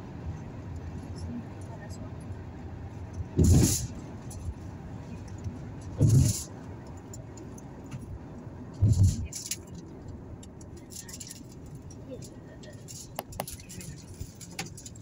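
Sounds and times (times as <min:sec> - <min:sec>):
car road noise: 0:00.0 - 0:15.0.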